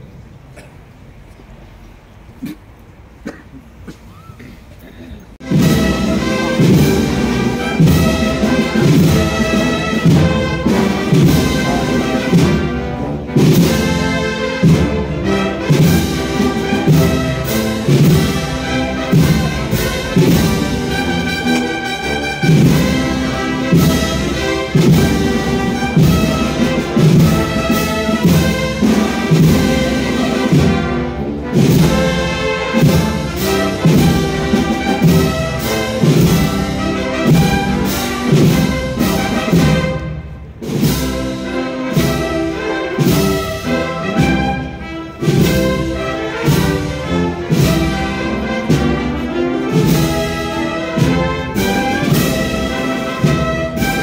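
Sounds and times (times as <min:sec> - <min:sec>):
brass and woodwinds playing march: 0:05.4 - 0:54.0
steady drum beat: 0:05.4 - 0:54.0.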